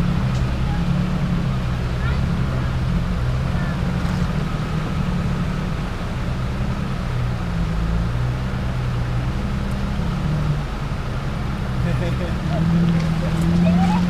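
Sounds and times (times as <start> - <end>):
car engine idling: 0.0 - 14.0
creek flowing: 0.0 - 14.0.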